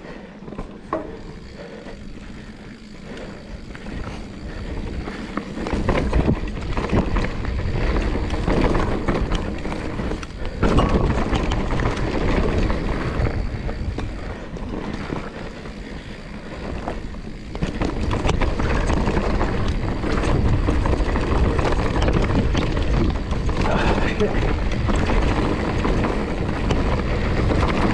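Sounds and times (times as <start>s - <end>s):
bike rattling: 0.0s - 27.9s
bike tyres rolling over dirt: 0.0s - 27.9s.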